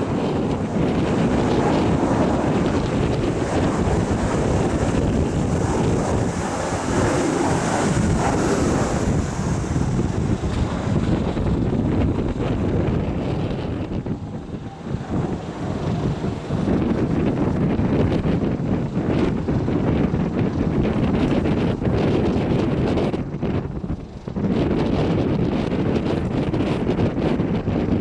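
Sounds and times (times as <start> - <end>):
gusty wind buffeting microphone: 0.0 - 28.0.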